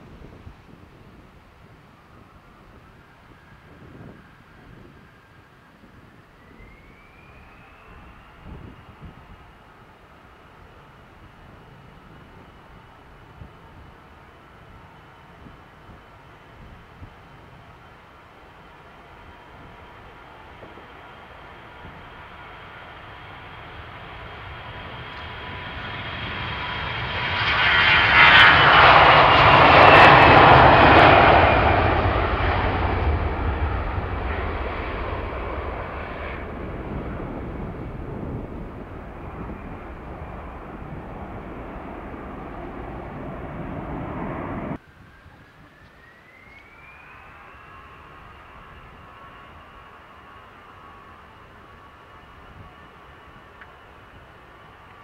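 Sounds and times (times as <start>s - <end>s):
jet airliner taking off: 0.0s - 55.0s
quieter jet whine: 0.0s - 55.0s.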